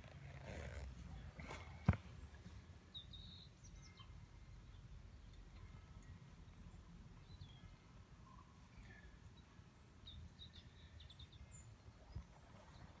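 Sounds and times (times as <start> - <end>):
distant songbirds chirping: 0.3 - 13.0.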